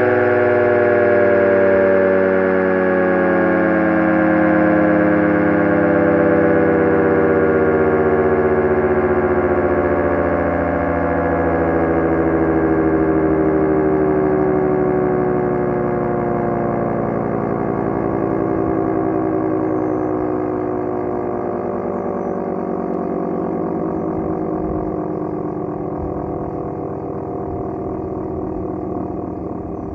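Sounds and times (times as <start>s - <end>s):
air raid siren winding down: 0.0s - 29.9s.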